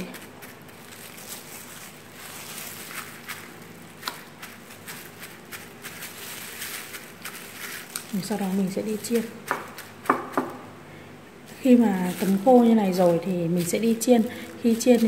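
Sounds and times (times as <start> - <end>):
paper towel rustling and crinkling: 0.0 - 10.6, 11.4 - 15.0.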